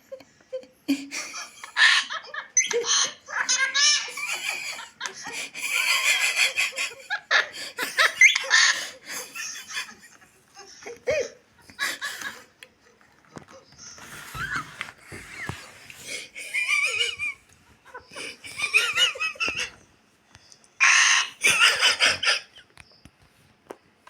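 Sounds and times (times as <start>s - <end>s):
high-pitched laughter: 0.0s - 12.6s, 14.1s - 19.8s, 20.8s - 22.6s.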